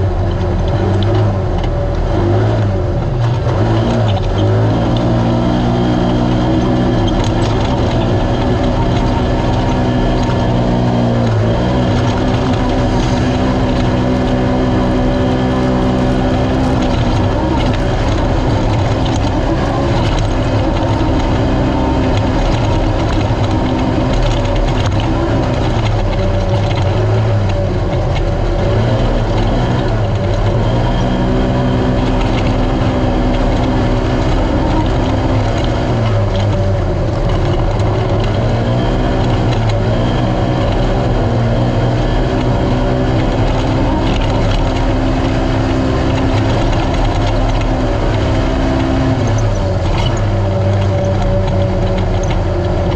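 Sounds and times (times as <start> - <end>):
race engine revving: 0.0 - 52.9.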